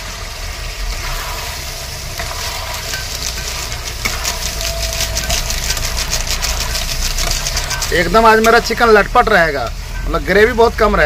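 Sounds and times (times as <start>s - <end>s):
curry sizzling in a pan: 0.0s - 11.0s
spatula scraping a pan: 0.8s - 10.2s.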